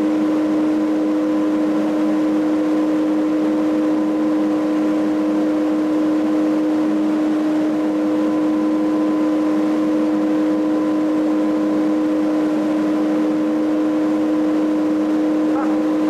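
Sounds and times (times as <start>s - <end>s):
mist blower motor hum: 0.0s - 16.0s.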